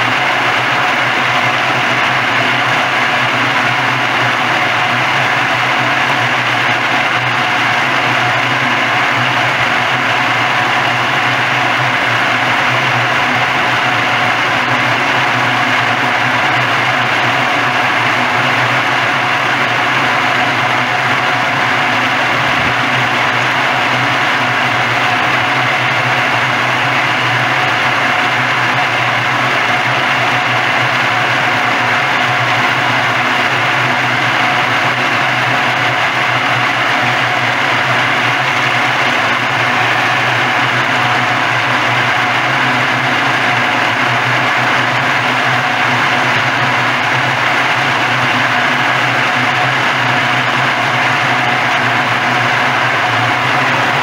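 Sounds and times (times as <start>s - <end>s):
peeling machine running: 0.0s - 54.0s.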